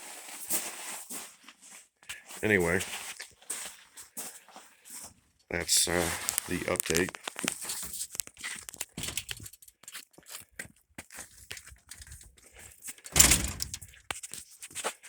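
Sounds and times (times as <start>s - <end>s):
crackling and rustling of material: 0.0s - 13.1s, 13.7s - 15.0s.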